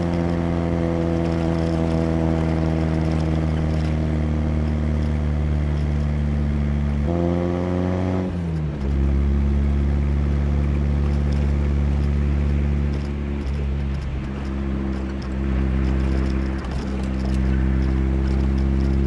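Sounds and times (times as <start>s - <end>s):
car engine accelerating and cruising: 0.0s - 19.0s.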